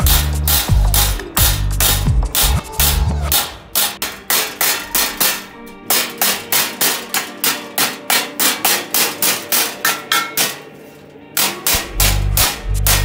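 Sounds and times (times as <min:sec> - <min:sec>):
hammer striking steel frame: 0:00.0 - 0:13.0.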